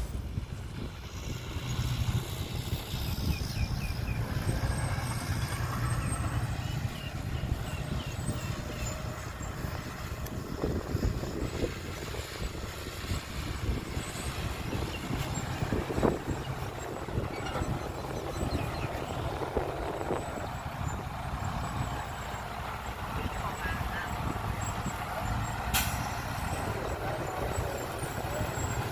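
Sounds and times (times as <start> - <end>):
heavy vehicle engine rumbling: 0.0 - 28.9.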